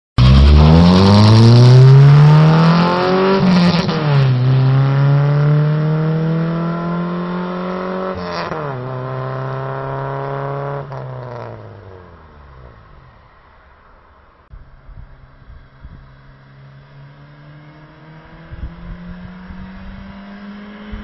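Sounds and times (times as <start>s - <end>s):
car engine accelerating hard: 0.2s - 12.8s, 15.5s - 21.0s.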